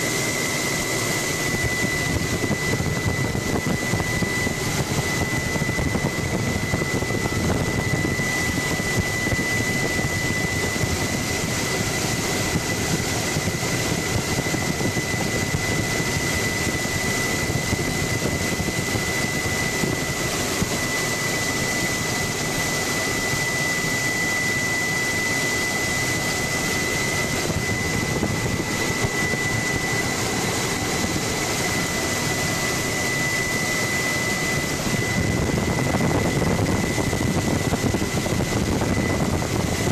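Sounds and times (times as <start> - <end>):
helicopter engine and rotor noise: 0.0 - 39.9
high whine: 0.0 - 39.9.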